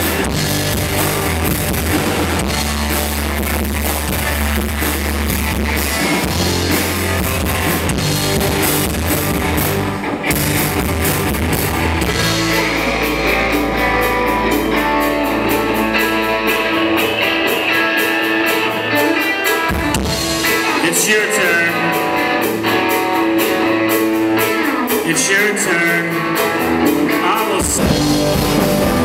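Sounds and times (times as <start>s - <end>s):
drum kit: 0.0s - 29.0s
electric bass: 0.0s - 29.0s
electric guitars: 0.0s - 29.0s.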